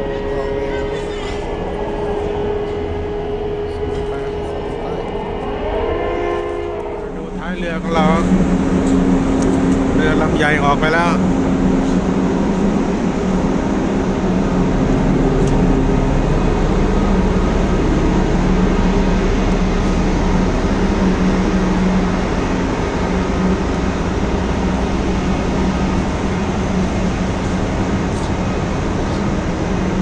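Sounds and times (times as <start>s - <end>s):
ship machinery drone: 0.0s - 30.0s.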